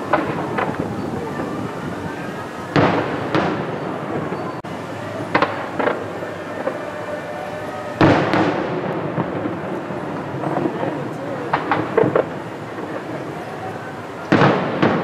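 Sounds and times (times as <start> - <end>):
firework shells booming: 0.0 - 15.0.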